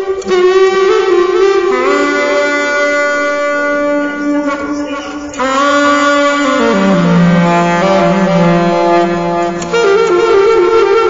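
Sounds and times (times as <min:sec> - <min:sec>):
saxophone long notes: 0:00.0 - 0:11.0.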